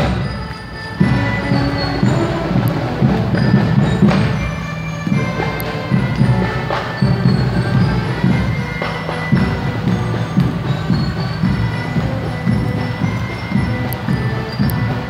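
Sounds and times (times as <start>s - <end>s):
pulsing drum beat: 0.0s - 15.0s
ringing bell-like notes: 0.0s - 15.0s.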